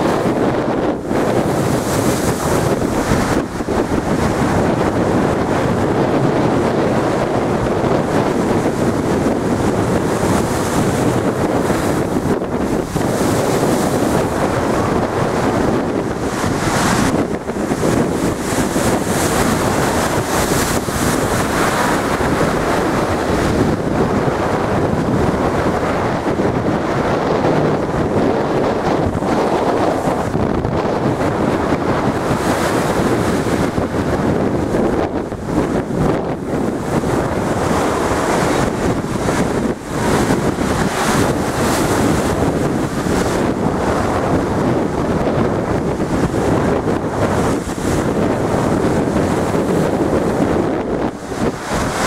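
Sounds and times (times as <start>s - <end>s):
waves breaking against sea wall: 0.0s - 52.0s
wind buffeting microphone: 0.0s - 52.0s.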